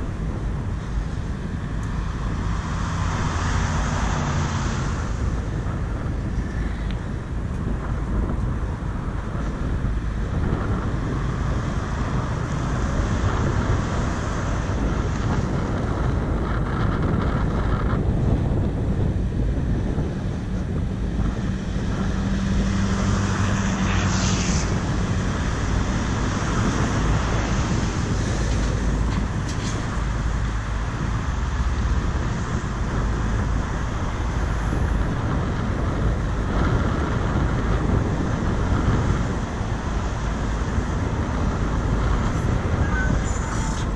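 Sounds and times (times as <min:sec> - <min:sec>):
road traffic noise: 0:00.0 - 0:43.9
wind rushing over microphone: 0:00.0 - 0:43.9.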